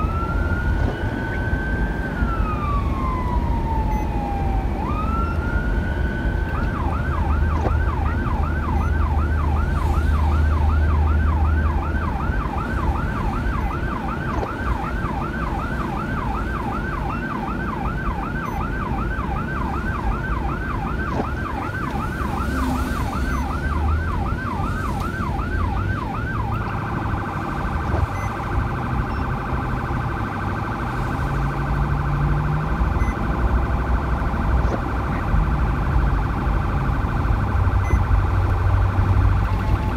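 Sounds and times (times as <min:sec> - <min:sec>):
police siren: 0:00.0 - 0:39.9
vehicle engine and tyres drone: 0:00.0 - 0:39.9.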